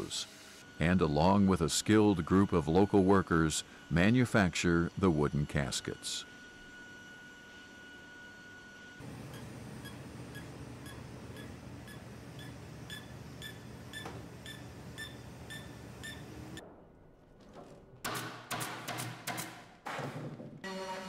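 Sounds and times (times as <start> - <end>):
workshop machine hum: 0.0 - 16.7, 17.8 - 21.0.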